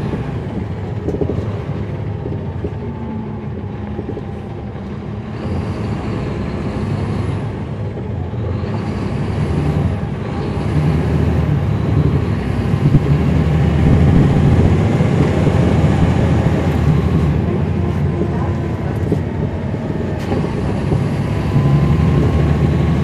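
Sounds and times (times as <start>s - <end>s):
bus diesel engine: 0.0s - 23.0s.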